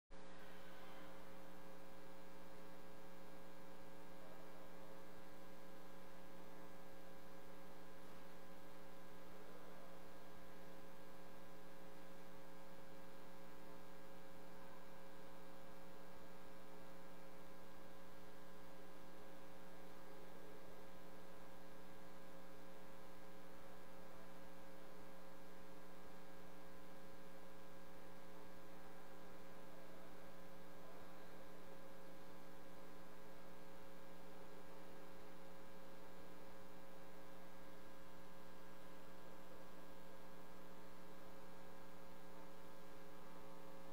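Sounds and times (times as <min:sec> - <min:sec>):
electrical mains hum: 0:00.2 - 0:43.9.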